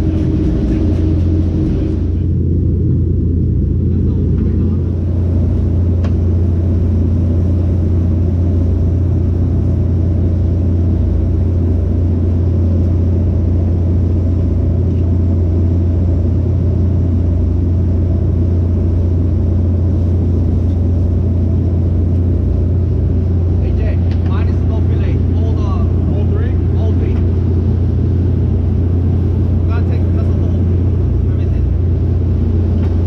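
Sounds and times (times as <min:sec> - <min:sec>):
boat engine drone: 0:00.0 - 0:33.0.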